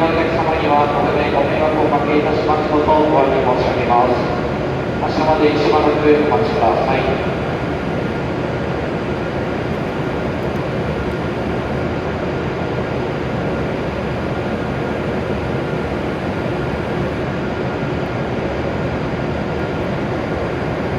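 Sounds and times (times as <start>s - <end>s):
faint steady whine: 0.0s - 20.9s
train onboard equipment hum: 0.0s - 20.9s.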